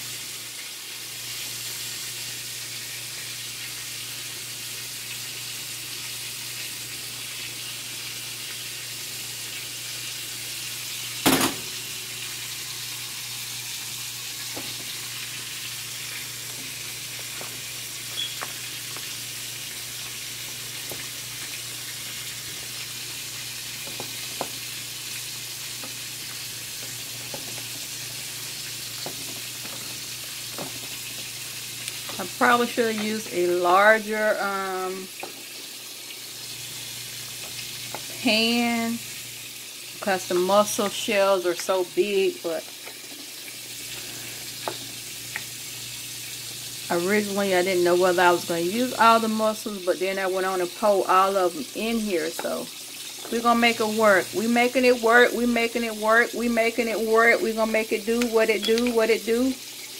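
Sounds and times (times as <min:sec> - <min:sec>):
seafood sizzling in a pot: 0:00.0 - 0:59.9.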